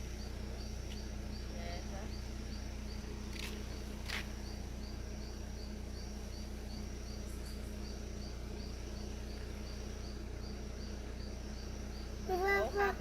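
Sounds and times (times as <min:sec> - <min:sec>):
insect chirping: 0:00.0 - 0:13.0
low rural background hum: 0:00.0 - 0:13.0.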